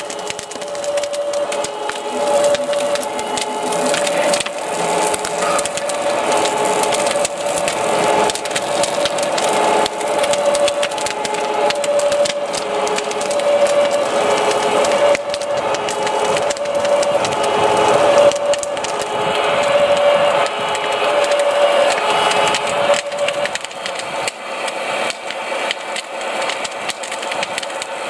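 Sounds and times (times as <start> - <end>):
steady mid-pitched tone: 0.0 - 26.4
large fire crackling and popping: 0.0 - 28.0.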